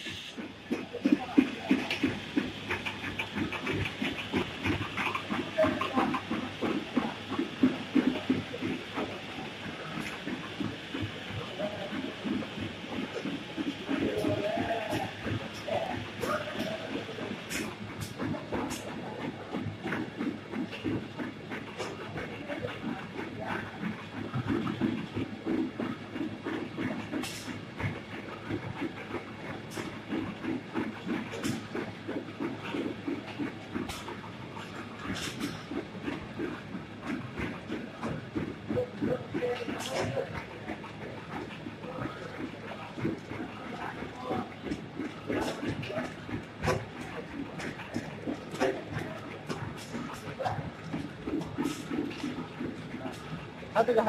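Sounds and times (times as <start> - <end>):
machine rhythmic clatter: 0.0 - 54.0.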